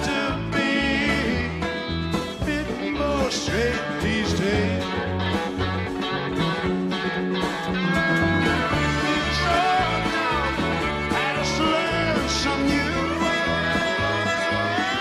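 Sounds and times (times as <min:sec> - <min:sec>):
bass: 0:00.0 - 0:15.0
drums: 0:00.0 - 0:15.0
electric guitar bending lead line: 0:00.0 - 0:15.0
piano: 0:00.0 - 0:15.0.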